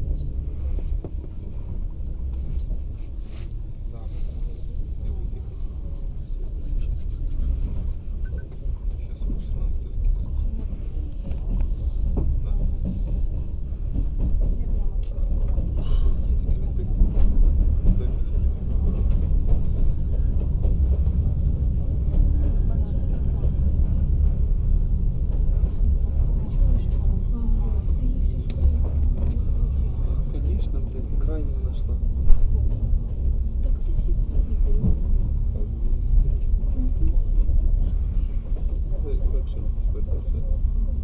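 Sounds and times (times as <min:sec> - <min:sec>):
train carriage rumbling on rails: 0:00.0 - 0:41.0.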